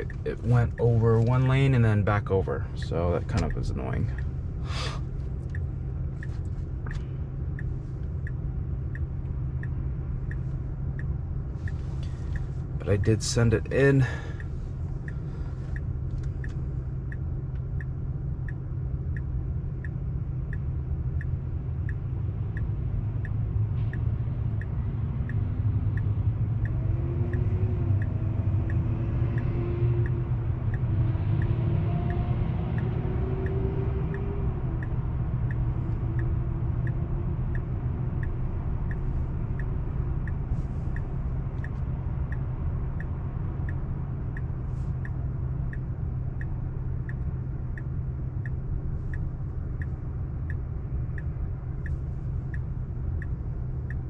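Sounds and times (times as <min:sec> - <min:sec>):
road and tyre rumble in car: 0:00.0 - 0:54.0
turn signal ticking: 0:00.0 - 0:54.0.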